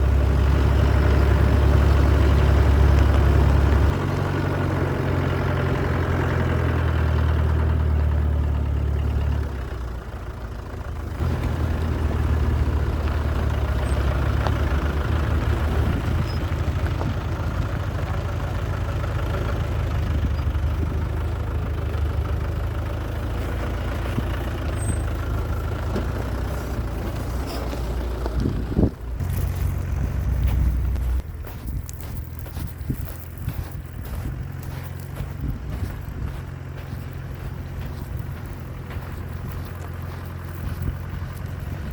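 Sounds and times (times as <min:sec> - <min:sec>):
deep engine running: 0:00.0 - 0:41.9.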